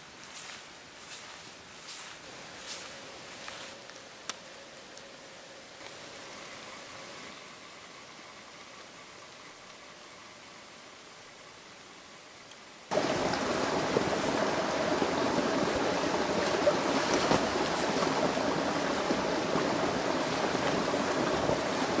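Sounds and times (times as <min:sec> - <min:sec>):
faint hiss: 0:00.0 - 0:22.0
stream babbling and trickling: 0:00.0 - 0:22.0.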